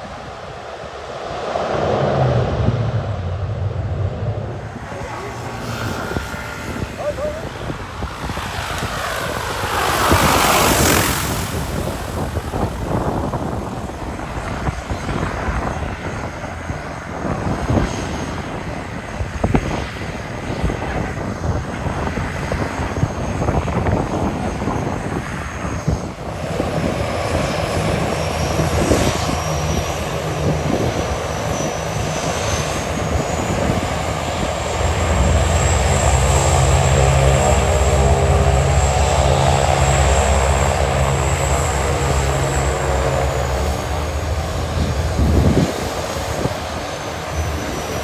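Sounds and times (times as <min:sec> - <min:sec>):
propeller airplane engine whining: 0:00.0 - 0:48.0
wind buffeting microphone: 0:00.0 - 0:48.0.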